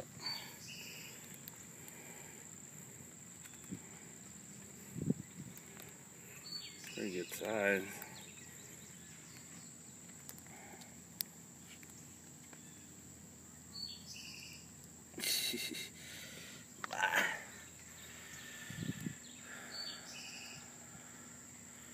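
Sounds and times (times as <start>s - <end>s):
insect drone: 0.0s - 21.9s.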